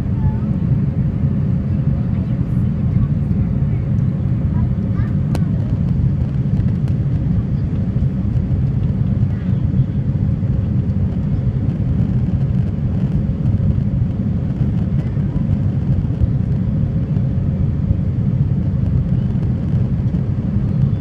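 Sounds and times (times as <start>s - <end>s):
jet cabin engine rumble: 0.0s - 21.0s.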